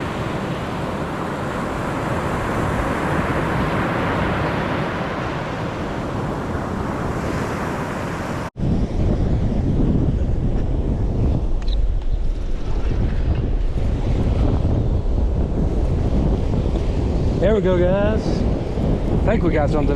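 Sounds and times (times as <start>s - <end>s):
surf washing on a beach: 0.0s - 11.2s, 12.4s - 19.9s
wind: 0.0s - 19.9s
wind buffeting the microphone: 0.0s - 19.9s.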